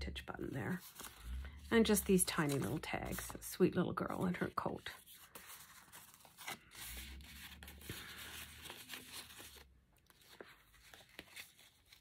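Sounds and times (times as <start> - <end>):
paper rustling and rubbing: 0.4 - 3.4, 4.1 - 12.0.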